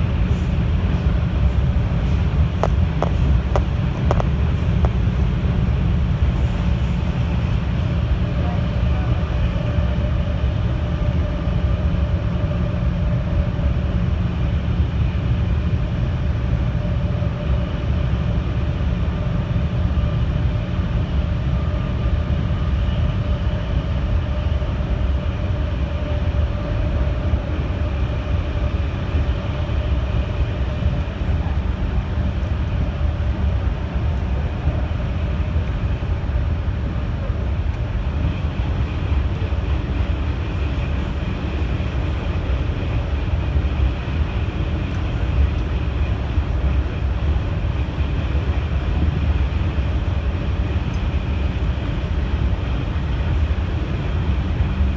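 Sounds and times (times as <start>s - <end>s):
faint steady whine: 0.0s - 54.9s
train wheels rumbling on rail: 0.0s - 54.9s.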